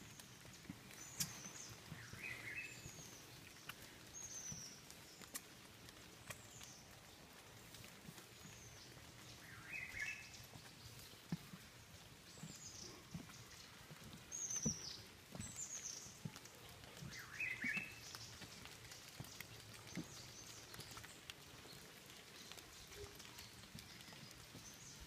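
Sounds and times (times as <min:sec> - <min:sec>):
birds chirping: 0:00.0 - 0:25.0
footsteps on wooden boardwalk: 0:00.0 - 0:25.0.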